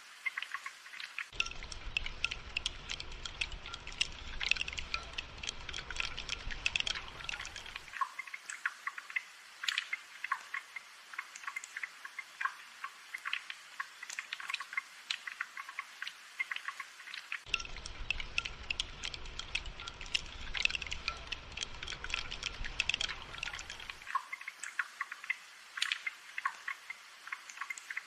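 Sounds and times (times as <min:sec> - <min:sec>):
low rushing rain: 0:00.0 - 0:11.5, 0:12.4 - 0:24.2
rain drops pattering: 0:00.0 - 0:28.0.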